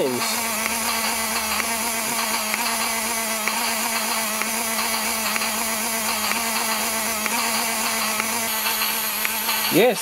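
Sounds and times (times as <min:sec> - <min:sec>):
toy train motor whirring: 0:00.0 - 0:10.0.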